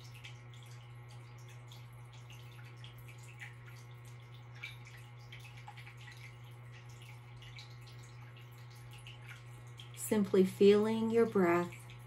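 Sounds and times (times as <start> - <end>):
water dripping: 0.0 - 12.0
water fountain trickling: 0.0 - 12.0.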